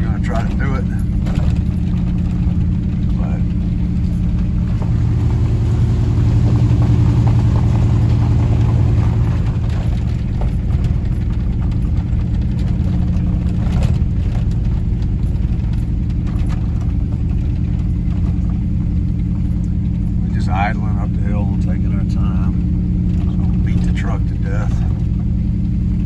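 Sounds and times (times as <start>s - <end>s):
truck engine running at low revs: 0.0s - 26.0s.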